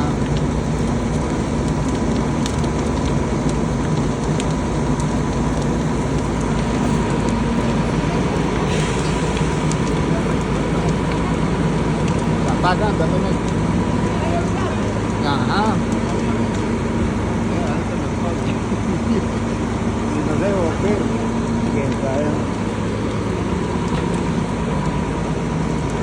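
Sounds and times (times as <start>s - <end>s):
burning wood crackling and popping: 0.0s - 26.0s
fire rushing: 0.0s - 26.0s.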